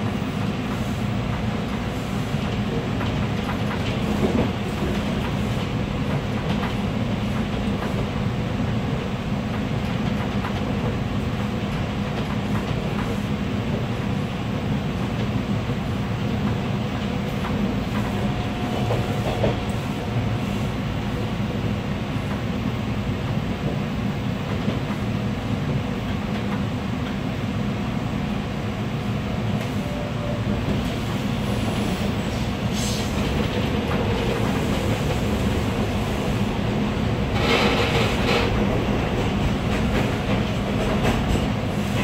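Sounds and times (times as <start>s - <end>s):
clickety-clack of rail joints: 0.0s - 28.4s, 29.4s - 42.0s
train wheels rumbling on rail: 0.0s - 42.0s.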